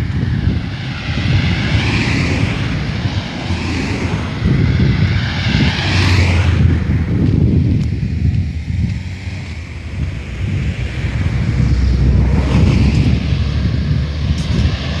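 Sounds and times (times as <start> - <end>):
rushing noise: 0.0 - 15.0
wind buffeting microphone: 0.0 - 15.0.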